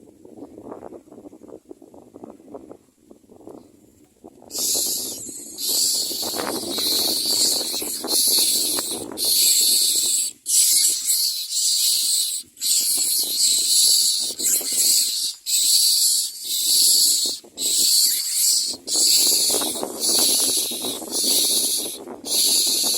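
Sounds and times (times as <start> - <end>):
bird nestling begging rasps: 4.5 - 22.9.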